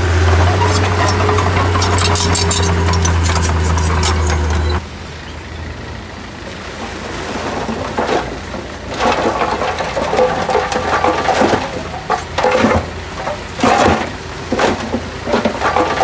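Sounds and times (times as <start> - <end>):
heavy diesel engine running: 0.0 - 16.0
metallic clanks and rattles: 0.2 - 4.8, 7.4 - 16.0.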